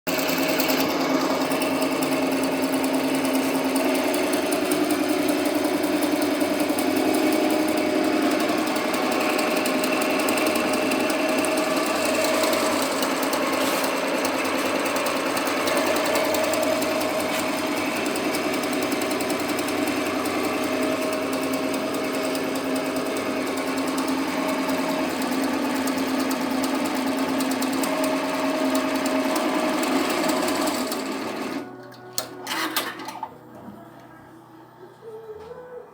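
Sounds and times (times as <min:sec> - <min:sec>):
embroidery machine needle chatter: 0:00.1 - 0:33.2
motor hum: 0:00.1 - 0:35.9.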